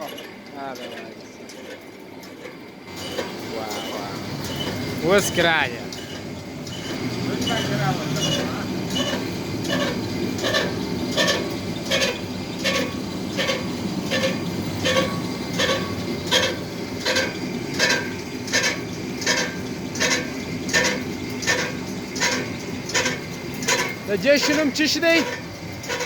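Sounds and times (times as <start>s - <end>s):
lathe humming: 2.9s - 26.0s.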